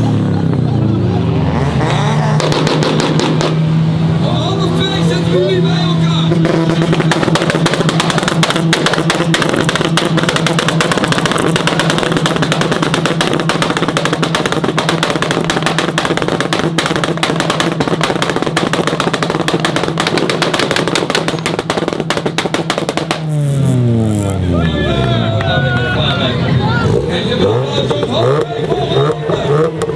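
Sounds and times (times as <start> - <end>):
car engines at high revs: 0.0 - 29.9
exhaust popping and crackling: 0.0 - 29.9.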